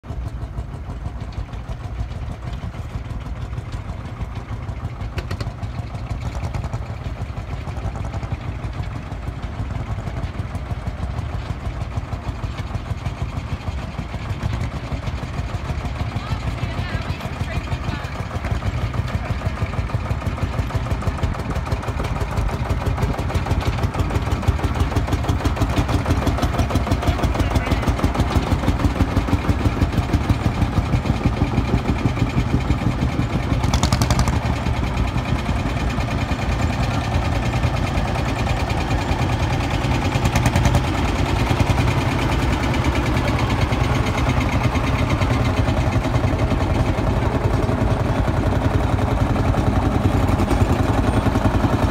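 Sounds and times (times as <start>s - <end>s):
tractor engines driving past: 0.0s - 51.9s.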